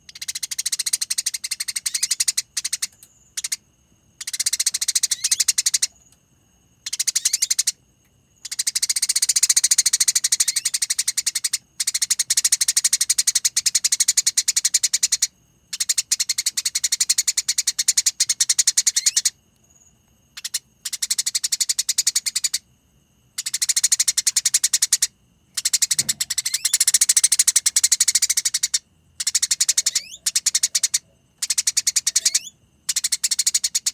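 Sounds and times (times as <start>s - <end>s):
songbird trilling: 0.1s - 3.6s, 4.2s - 5.9s, 6.8s - 7.8s, 8.4s - 19.4s, 20.4s - 22.6s, 23.4s - 33.9s.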